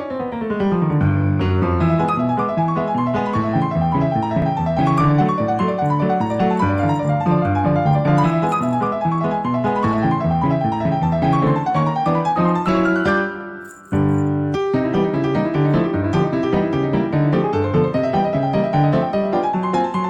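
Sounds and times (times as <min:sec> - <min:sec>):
lively piano music: 0:00.0 - 0:20.0.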